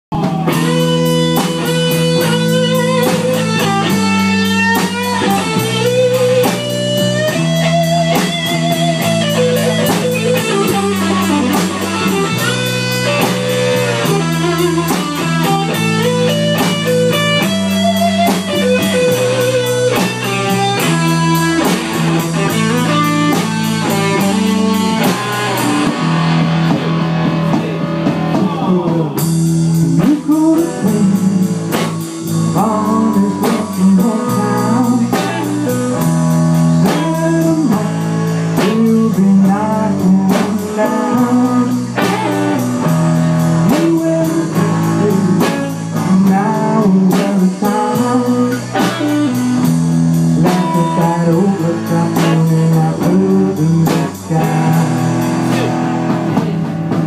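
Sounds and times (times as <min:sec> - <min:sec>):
bass line: 0:00.0 - 0:57.0
drums keeping beat: 0:00.1 - 0:57.0
guitar lead with bent notes: 0:00.1 - 0:57.0.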